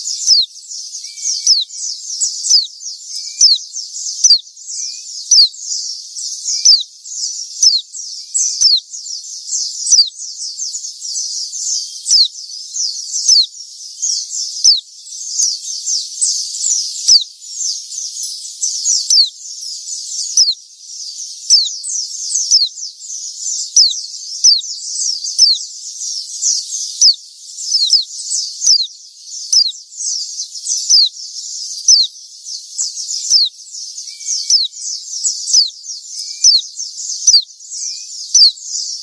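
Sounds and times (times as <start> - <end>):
bird chirping high and fast: 0.0 - 39.0.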